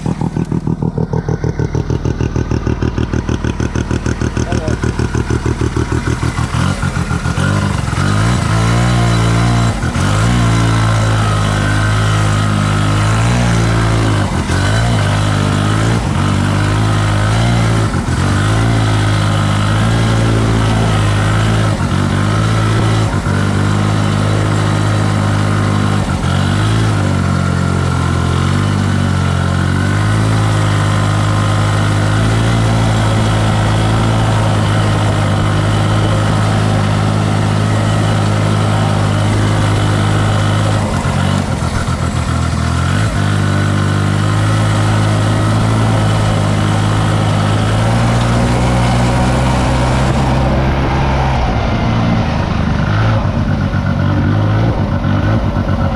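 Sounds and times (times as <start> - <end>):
snowmobile engine revving: 0.0 - 55.9.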